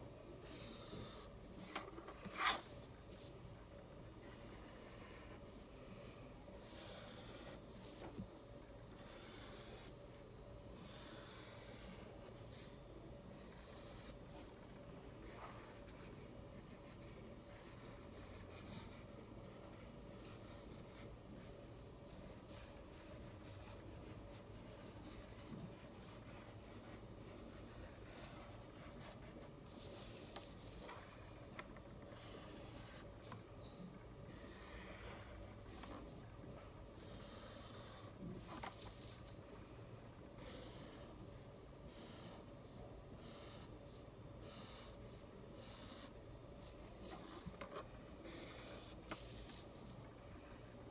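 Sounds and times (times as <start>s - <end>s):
marker drawing on paper: 0.4s - 3.4s, 4.2s - 5.8s, 6.6s - 8.2s, 8.9s - 10.2s, 10.8s - 31.2s, 31.9s - 36.2s, 37.0s - 39.4s, 40.4s - 50.1s.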